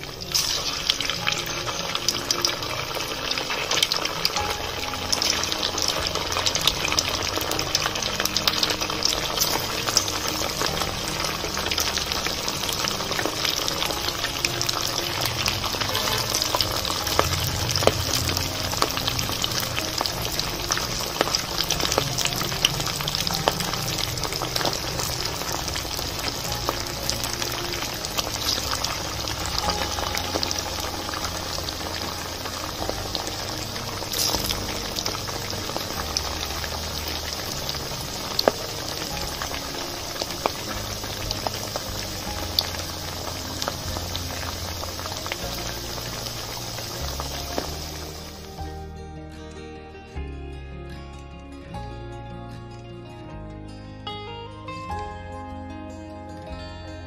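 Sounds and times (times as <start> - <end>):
hot oil sizzling and crackling: 0.0 - 48.8.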